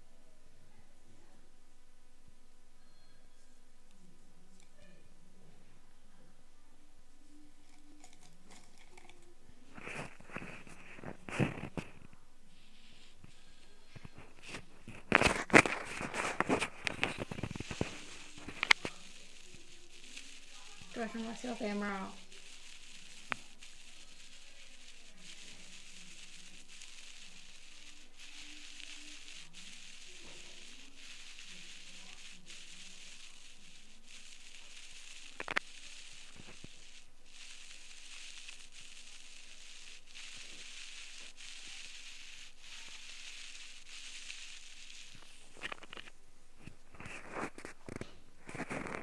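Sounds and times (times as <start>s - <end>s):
crackling from ear pick in ear: 2.8s - 6.3s, 7.0s - 49.0s
irregular scraping: 7.3s - 49.0s.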